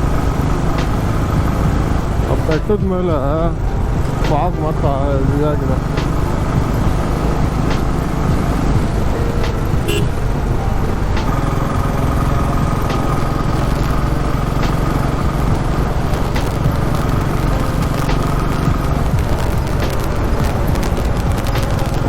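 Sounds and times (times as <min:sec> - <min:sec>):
motorcycle engine cruising: 0:00.0 - 0:22.0
wind and road noise: 0:00.0 - 0:22.0.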